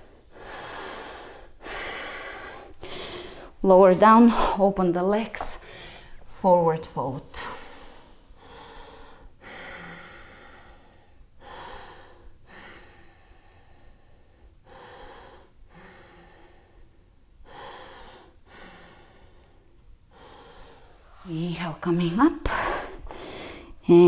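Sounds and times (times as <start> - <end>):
woman breathing deeply: 0.0 - 4.7, 5.6 - 6.3, 7.4 - 21.2, 22.5 - 23.8.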